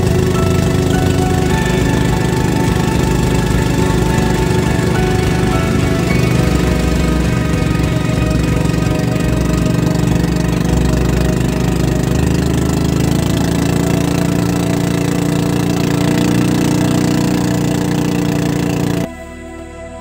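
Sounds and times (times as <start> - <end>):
boat engine running: 0.0 - 19.1.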